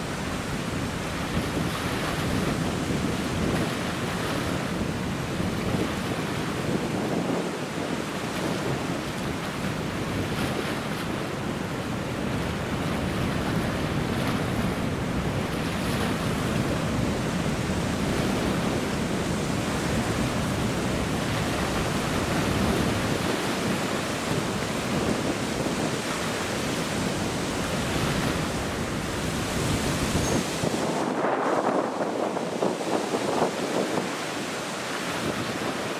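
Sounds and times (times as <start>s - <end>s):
choppy river water: 0.0s - 35.9s
wind on microphone: 0.0s - 35.9s.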